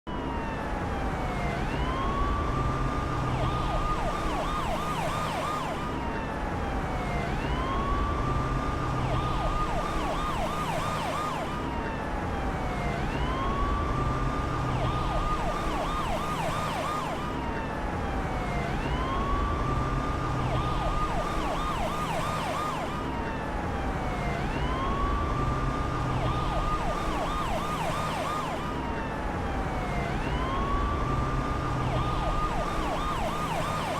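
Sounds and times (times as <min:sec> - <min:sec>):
emergency vehicle siren: 0:00.0 - 0:33.9.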